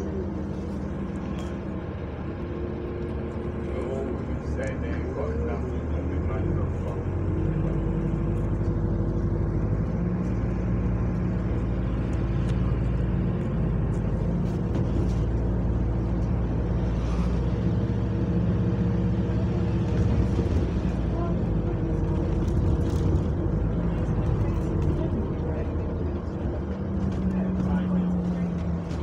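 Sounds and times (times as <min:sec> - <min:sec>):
bus engine droning: 0:00.0 - 0:29.0.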